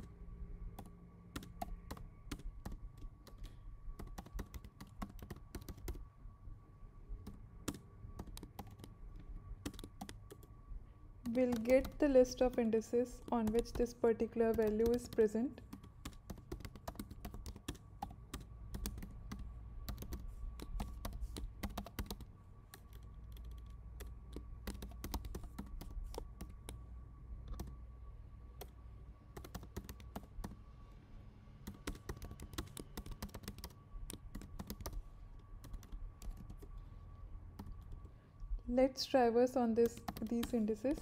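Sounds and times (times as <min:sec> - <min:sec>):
faint steady whine: 0:00.0 - 0:41.0
keyboard typing: 0:00.8 - 0:06.0, 0:07.2 - 0:10.6, 0:11.2 - 0:27.8, 0:28.6 - 0:30.6, 0:31.6 - 0:36.8, 0:37.6 - 0:38.2, 0:39.7 - 0:41.0.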